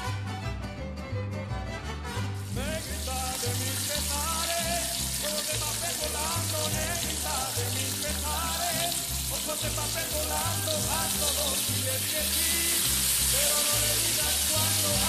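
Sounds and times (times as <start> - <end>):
background music: 0.0 - 15.0
onions sizzling in a pan: 2.4 - 15.0.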